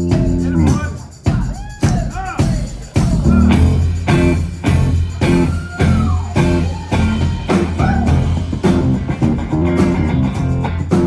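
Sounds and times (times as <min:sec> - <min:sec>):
bass guitar: 0:00.0 - 0:01.1, 0:03.0 - 0:11.0
live rock band playing: 0:00.0 - 0:01.5, 0:02.6 - 0:11.0
guitar: 0:00.0 - 0:11.0.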